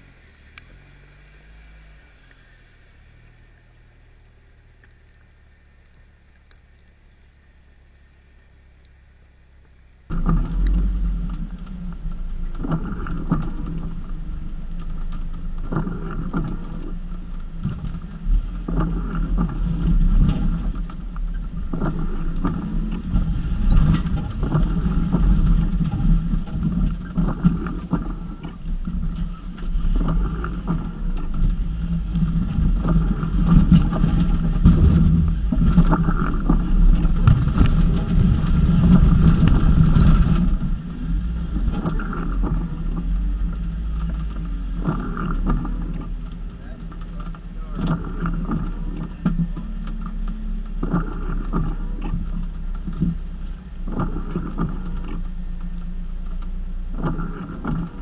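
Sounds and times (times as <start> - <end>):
car engine running: 0.0 - 58.0
vehicle knocks and clunks: 10.1 - 58.0.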